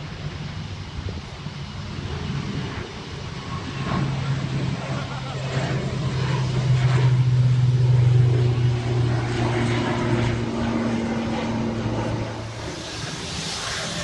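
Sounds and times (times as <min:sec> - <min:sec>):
jet airliner engines rumbling: 0:00.0 - 0:14.0.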